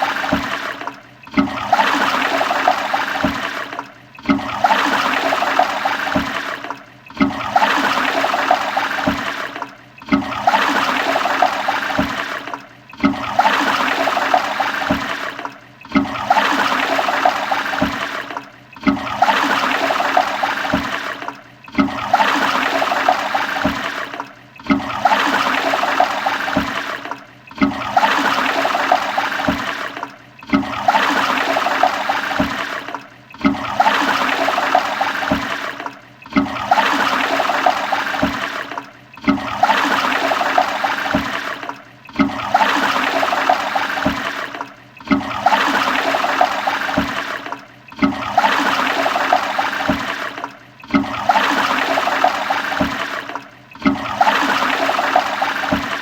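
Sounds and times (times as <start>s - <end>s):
toilet flushing: 0.0s - 56.0s.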